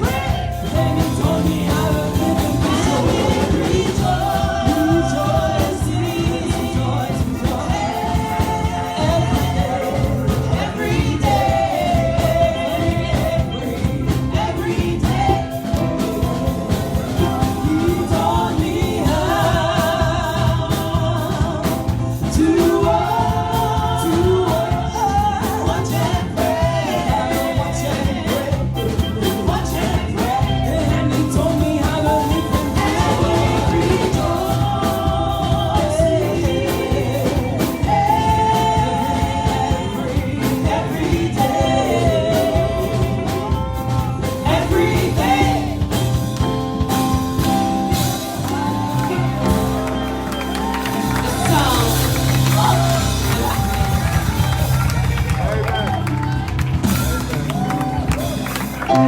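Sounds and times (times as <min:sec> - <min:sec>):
band with steady beat: 0:00.0 - 0:59.0
voices singing gospel: 0:00.0 - 0:59.0.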